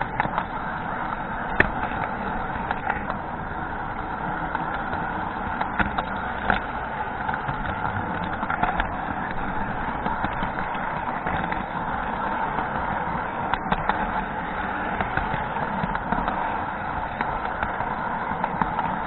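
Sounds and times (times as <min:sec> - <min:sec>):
model train running on rails: 0:00.0 - 0:19.0.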